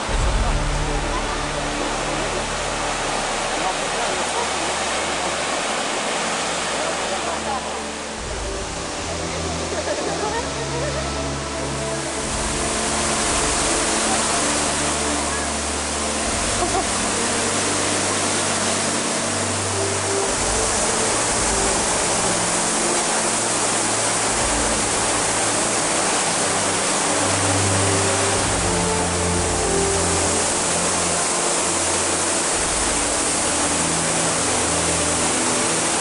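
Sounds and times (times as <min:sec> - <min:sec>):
faint music with low notes: 0:00.0 - 0:36.0
waterfall rushing: 0:00.0 - 0:36.0.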